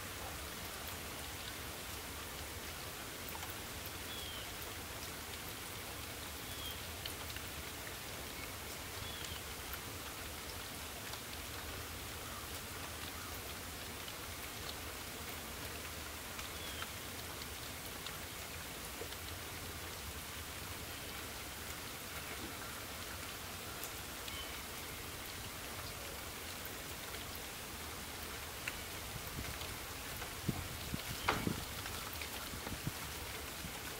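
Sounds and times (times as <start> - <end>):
steady rain hiss: 0.0 - 33.9
raindrops ticking: 0.1 - 33.9.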